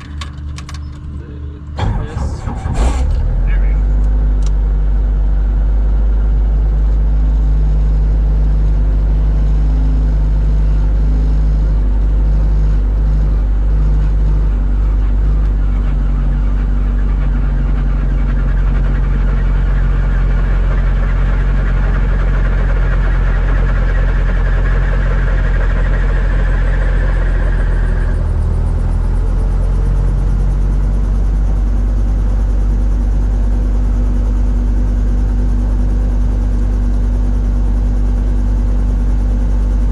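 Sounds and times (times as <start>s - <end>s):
helicopter engine drone: 0.0s - 39.9s.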